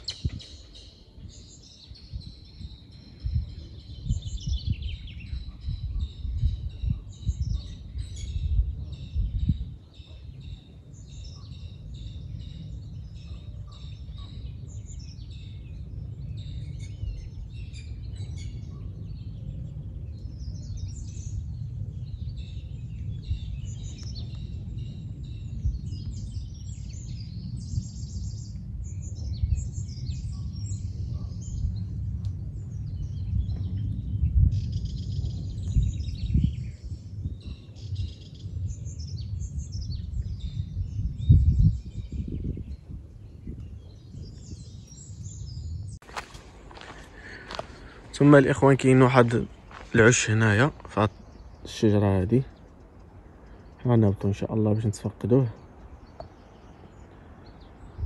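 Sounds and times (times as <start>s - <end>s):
steady low rumble: 0.0s - 58.0s
wild birds chirping and singing: 0.0s - 58.0s.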